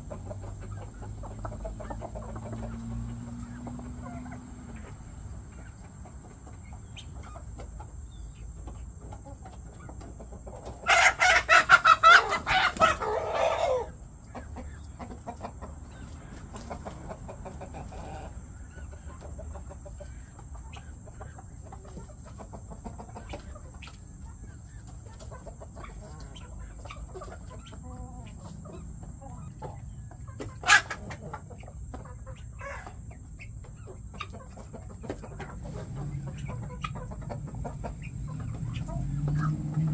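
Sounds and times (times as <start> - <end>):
chickens clucking softly: 0.0 - 39.9.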